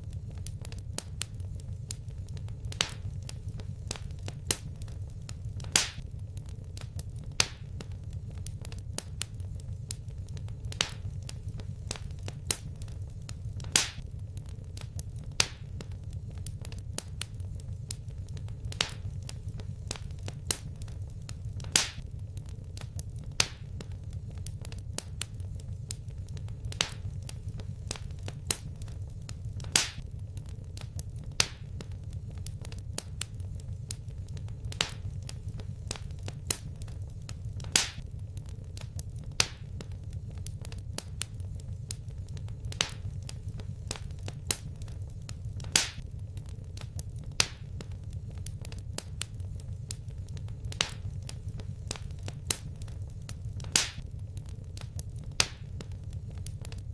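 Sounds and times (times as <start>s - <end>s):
low rumble of flames: 0.0s - 56.9s
wood fire crackling: 0.0s - 56.9s.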